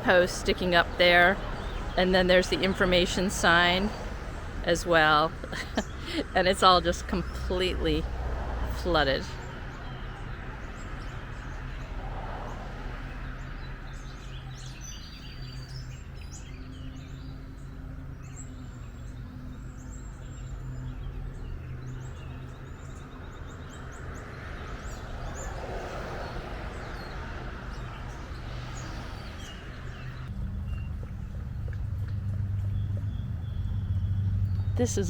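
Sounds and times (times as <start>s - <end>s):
small birds chirping: 0.0s - 8.1s, 8.7s - 35.0s.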